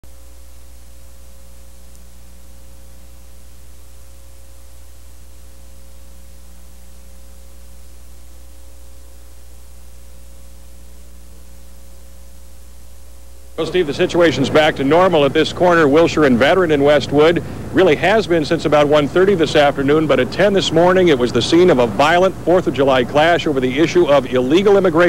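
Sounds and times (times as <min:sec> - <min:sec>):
constant hiss: 0:00.0 - 0:25.0
low electrical hum: 0:00.0 - 0:25.0
faint steady tones: 0:00.1 - 0:25.0.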